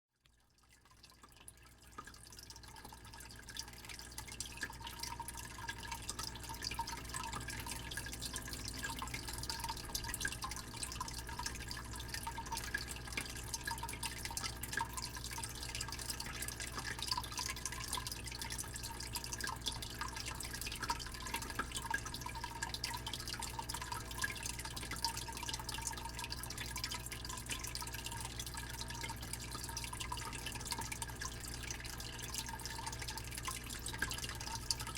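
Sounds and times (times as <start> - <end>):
water dripping and trickling: 0.1 - 34.9
fish tank pump humming: 1.3 - 34.9.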